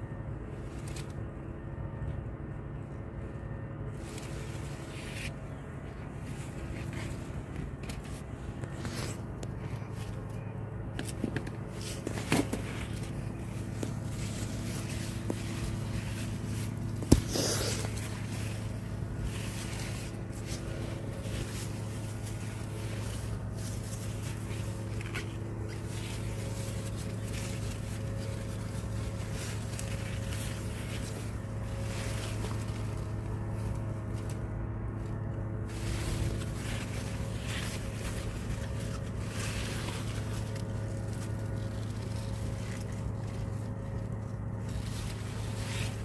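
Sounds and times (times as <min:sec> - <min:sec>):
steady low hum: 0:00.0 - 0:46.0
leaves rustling: 0:00.3 - 0:01.5, 0:02.8 - 0:46.0.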